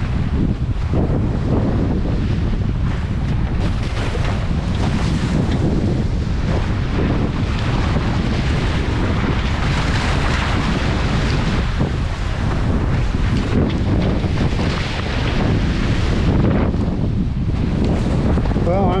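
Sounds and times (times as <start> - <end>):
water splashing along hulls: 0.0 - 19.0
wind buffeting microphone: 0.0 - 19.0.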